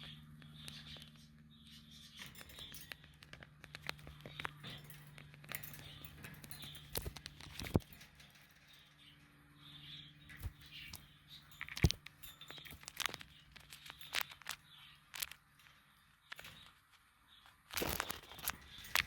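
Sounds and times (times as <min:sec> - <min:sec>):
steady low hum: 0:00.0 - 0:19.0
clicks and taps in cage: 0:02.2 - 0:09.4, 0:10.2 - 0:19.0.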